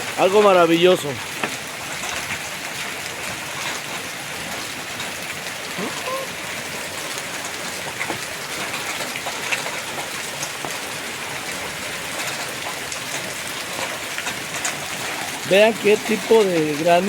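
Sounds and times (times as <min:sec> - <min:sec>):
hail and rain falling: 0:00.0 - 0:17.0
hailstones ticking: 0:00.0 - 0:17.0.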